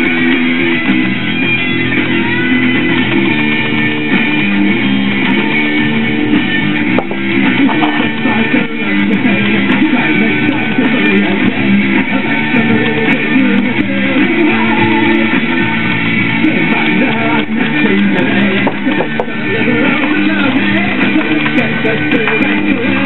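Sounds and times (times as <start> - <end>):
background guitar music: 0.0 - 23.0.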